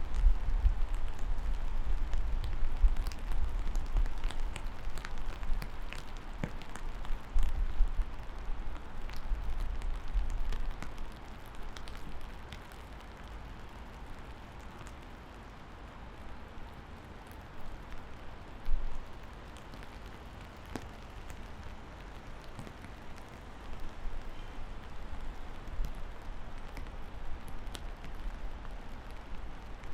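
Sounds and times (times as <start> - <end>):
raindrops ticking close by: 0.0 - 29.9
steady rain: 0.0 - 29.9.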